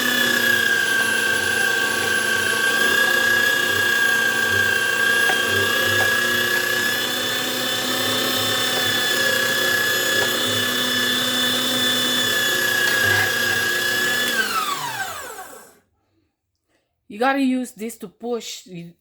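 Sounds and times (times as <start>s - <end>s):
electric meat grinder whining: 0.0s - 15.8s.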